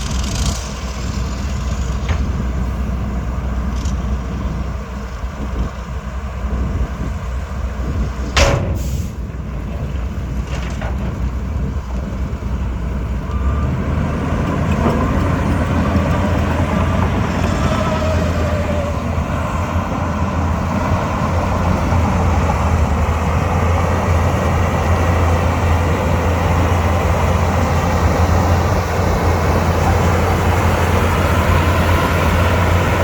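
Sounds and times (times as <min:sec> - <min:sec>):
diesel machinery engine rumble: 0:00.0 - 0:33.0.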